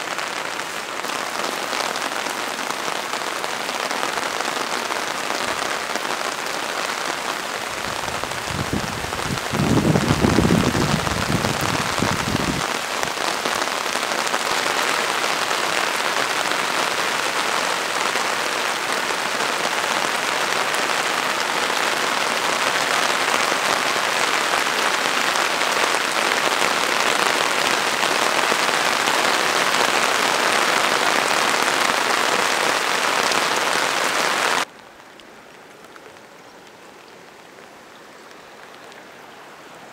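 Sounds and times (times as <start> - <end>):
heavy rain hissing: 0.0 - 34.7.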